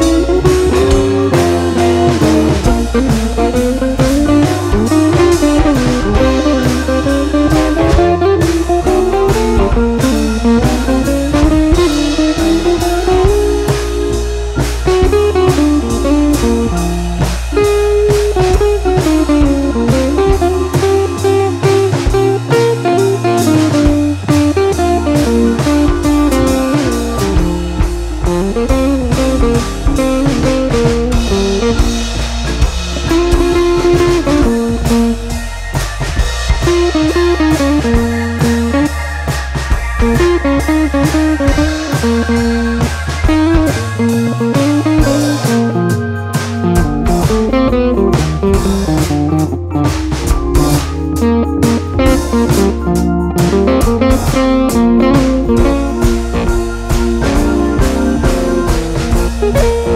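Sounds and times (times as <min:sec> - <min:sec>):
bass: 0:00.0 - 0:59.9
blues electric guitar: 0:00.0 - 0:59.9
drums: 0:00.0 - 0:59.9.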